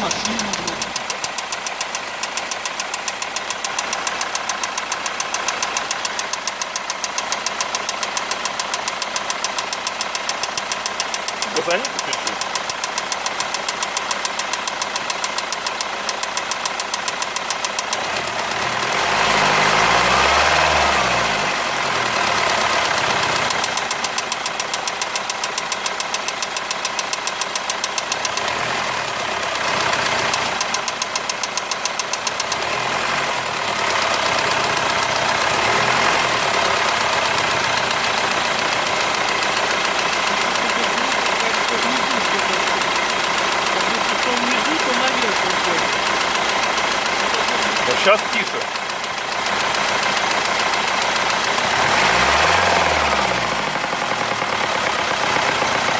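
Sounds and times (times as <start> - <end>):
diesel engine ticking knock: 0.0 - 20.7, 21.6 - 55.9.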